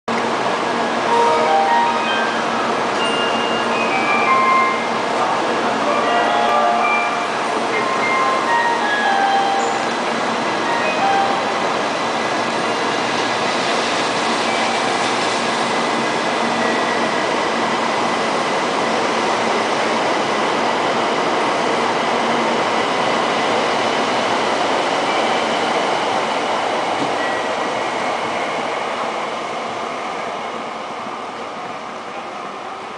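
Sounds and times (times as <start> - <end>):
train rushing past: 0.2 - 32.9.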